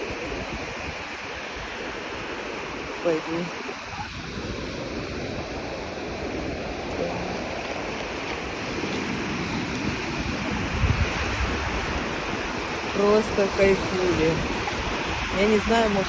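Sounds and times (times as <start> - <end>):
waves breaking on beach: 0.0 - 16.0.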